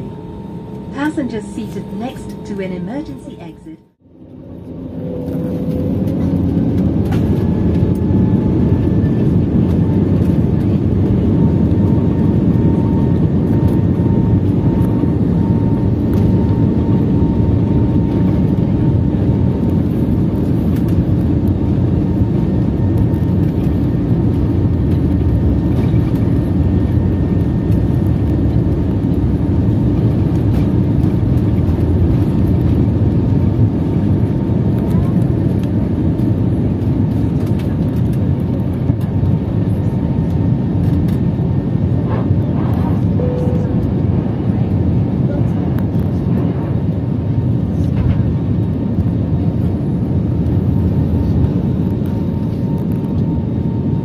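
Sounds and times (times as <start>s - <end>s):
jet engine roar: 0.0s - 54.0s.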